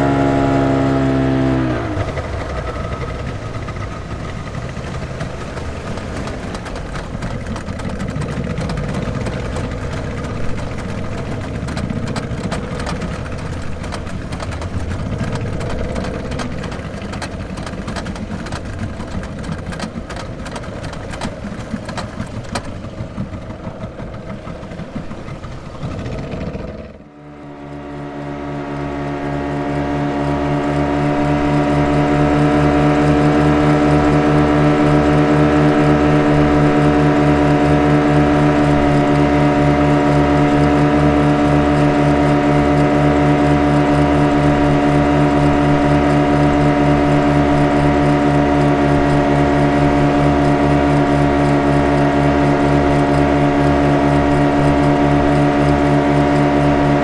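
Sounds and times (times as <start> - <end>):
speed boat engine: 0.0 - 57.0
steady engine drone: 0.0 - 57.0.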